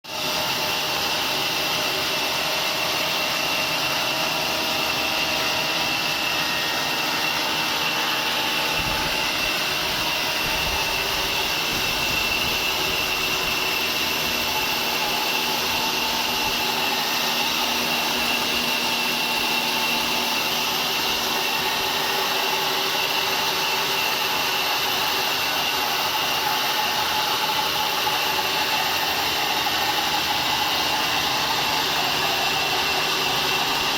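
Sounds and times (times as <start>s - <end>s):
sawmill saw cutting wood: 0.1s - 33.9s.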